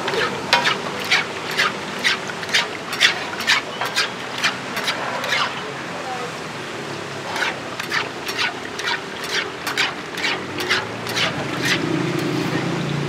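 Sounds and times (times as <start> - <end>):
food sizzling in oil: 0.0 - 5.6, 7.3 - 12.5.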